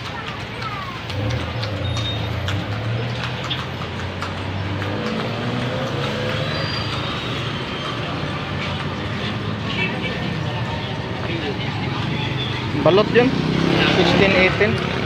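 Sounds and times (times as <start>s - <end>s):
street traffic: 0.0s - 15.0s
vehicle engine humming: 0.0s - 15.0s.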